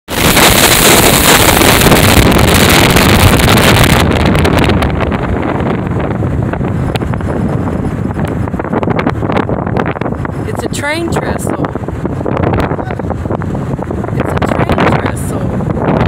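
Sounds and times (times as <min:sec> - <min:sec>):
wind buffeting microphone: 0:00.1 - 0:16.0.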